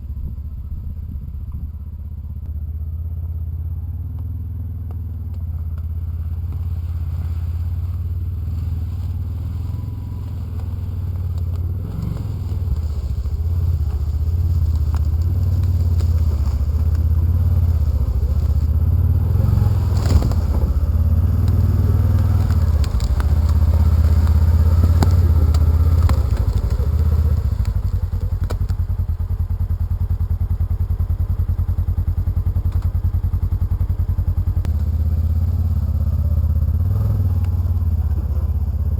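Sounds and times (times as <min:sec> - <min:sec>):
utility vehicle engine running: 0:00.0 - 0:38.9.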